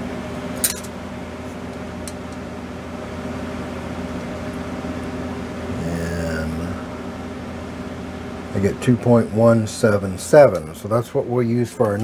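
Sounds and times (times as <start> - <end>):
mechanical hum of shop equipment: 0.0 - 12.0.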